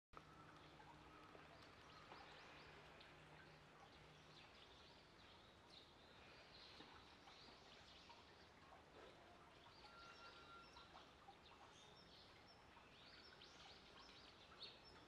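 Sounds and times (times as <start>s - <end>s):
faint bird chirps: 0.2s - 15.0s.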